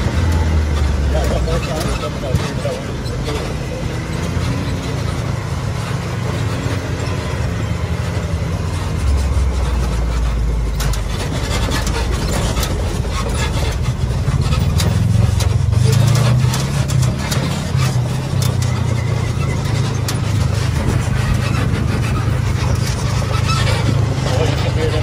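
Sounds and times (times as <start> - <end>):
sharp knocks and clatters: 0.0 - 25.0
utility vehicle engine running: 0.0 - 25.0.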